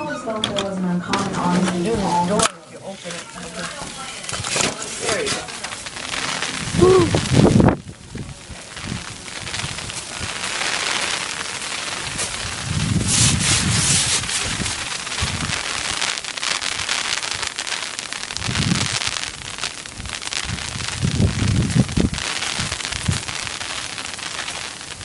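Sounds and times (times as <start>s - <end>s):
hailstones clattering on ground: 1.6s - 25.0s.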